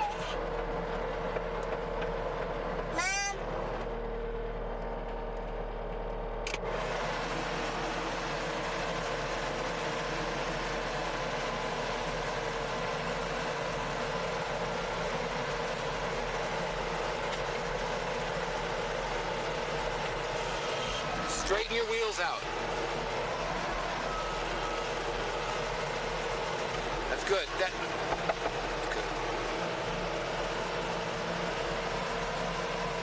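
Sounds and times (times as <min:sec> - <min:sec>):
skid steer engine running: 0:00.0 - 0:33.0.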